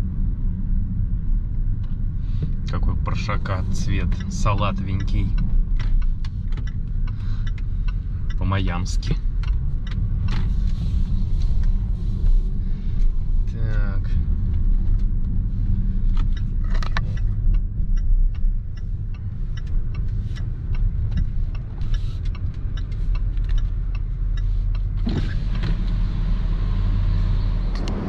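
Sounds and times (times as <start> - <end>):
car engine and tyres rumbling: 0.0 - 28.0
light regular ticks: 2.6 - 25.1.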